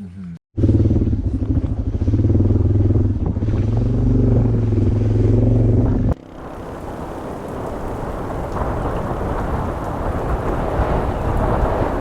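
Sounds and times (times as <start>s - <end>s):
motorcycle engine cruising: 0.6s - 12.0s.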